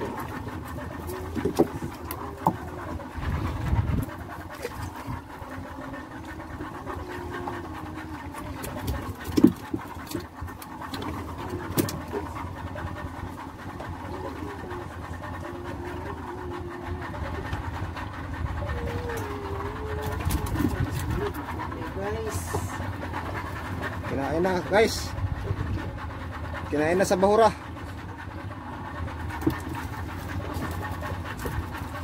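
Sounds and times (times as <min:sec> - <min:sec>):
boat engine humming: 0:00.0 - 0:32.0.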